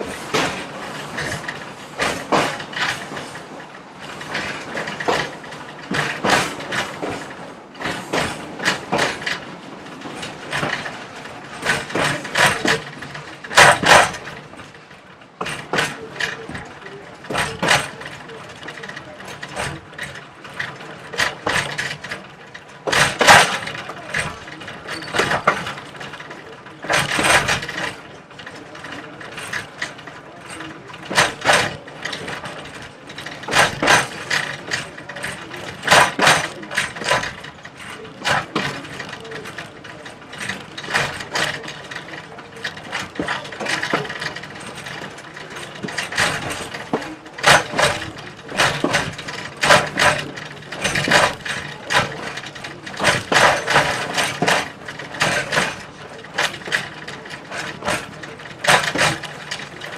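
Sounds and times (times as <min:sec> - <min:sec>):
low rolling train rumble: 0:00.0 - 0:59.9
train wheels clacking over joints: 0:00.0 - 0:59.9.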